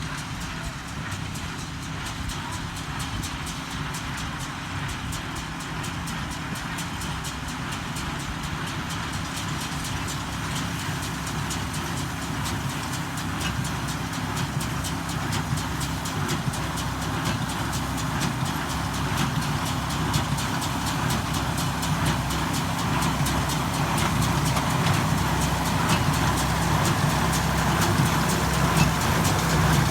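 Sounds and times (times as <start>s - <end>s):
hay baler mechanical clatter: 0.0s - 29.9s
tractor engine running under load: 0.0s - 29.9s.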